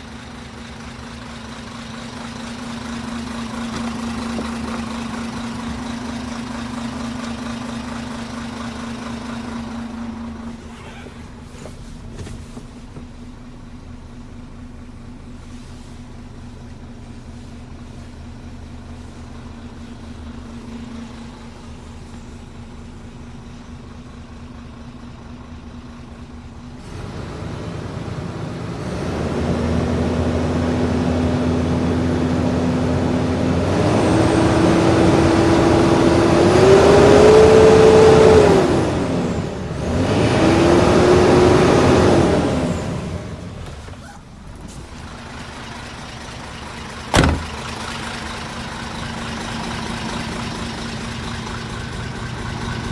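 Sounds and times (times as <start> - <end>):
diesel truck engine idling: 0.0 - 52.9.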